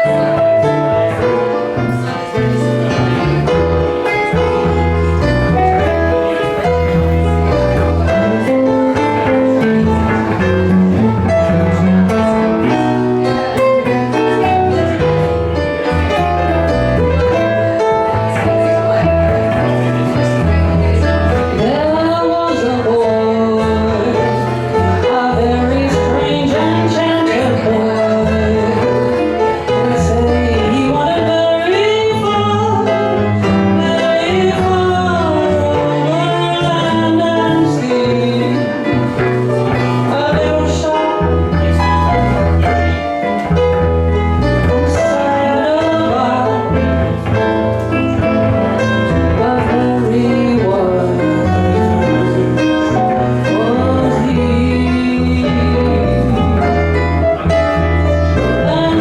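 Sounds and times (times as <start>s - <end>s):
bass line: 0.0s - 59.0s
guitar: 0.0s - 59.0s
person singing: 0.0s - 59.0s.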